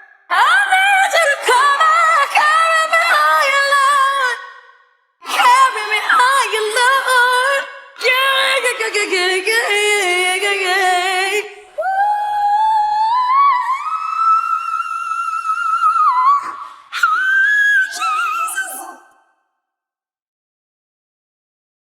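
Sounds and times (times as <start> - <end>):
woman singing a cappella: 0.0 - 19.2.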